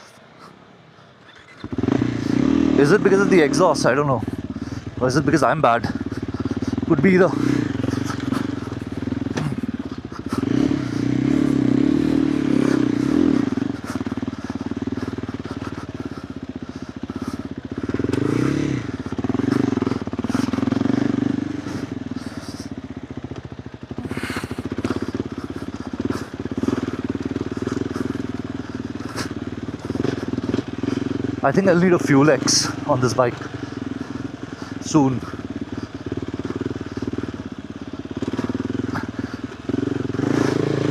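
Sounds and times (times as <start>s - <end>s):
motorcycle engine revving: 1.0s - 40.9s.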